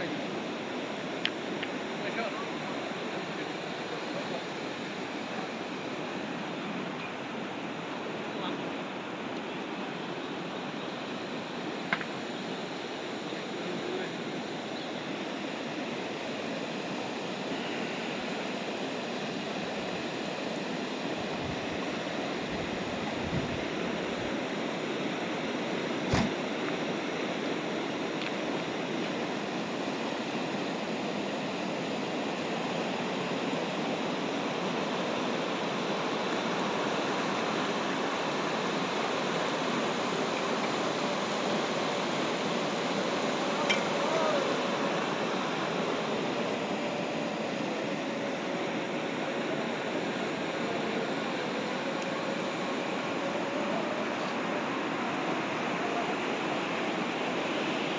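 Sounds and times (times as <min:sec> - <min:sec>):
water rushing: 0:00.0 - 0:57.9.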